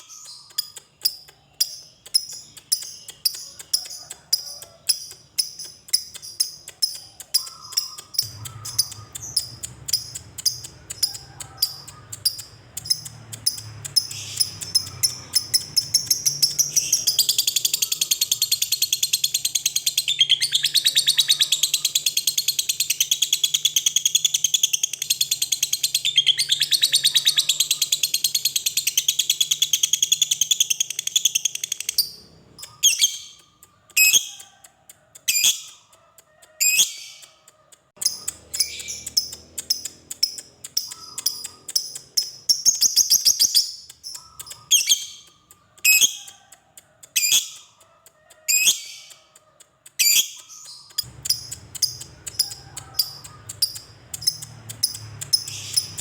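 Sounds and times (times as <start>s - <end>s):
lovebird chirping and trilling: 0.0s - 56.0s.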